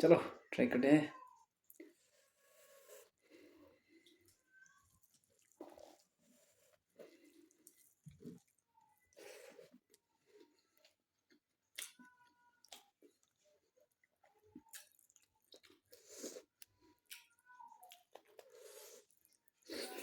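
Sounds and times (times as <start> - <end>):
person chewing: 1.6 - 20.0.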